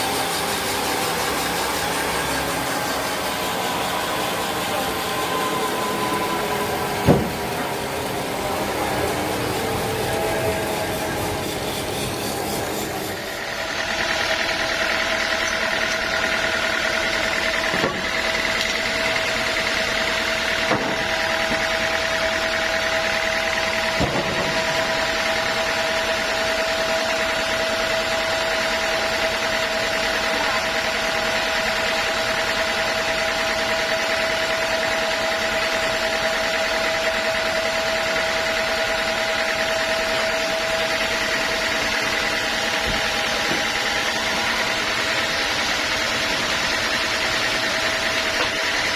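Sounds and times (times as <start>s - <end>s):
sawmill machinery whining: 0.0s - 48.9s.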